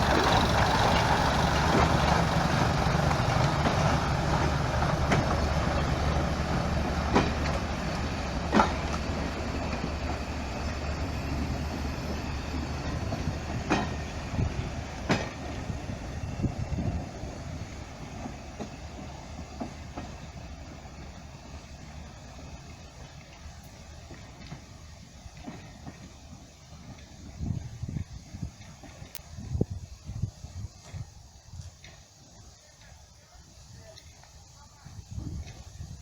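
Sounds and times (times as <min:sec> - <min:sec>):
train running hum: 0:00.0 - 0:36.0
train wheels clicking on rail joints: 0:00.0 - 0:36.0.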